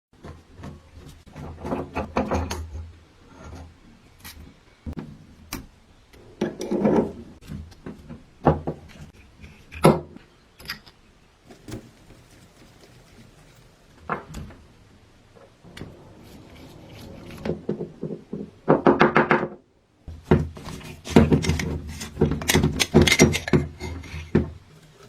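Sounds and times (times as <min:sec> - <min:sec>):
hard objects knocking and scraping: 0:00.2 - 0:05.3, 0:06.2 - 0:14.7, 0:15.4 - 0:25.0.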